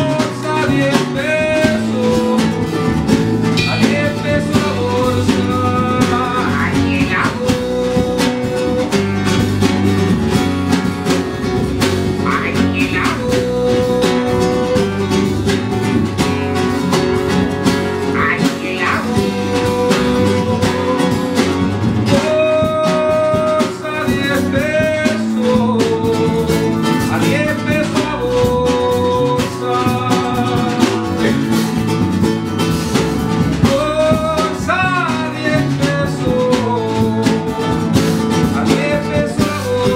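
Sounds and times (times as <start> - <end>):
live band playing instrumental: 0.0 - 39.9.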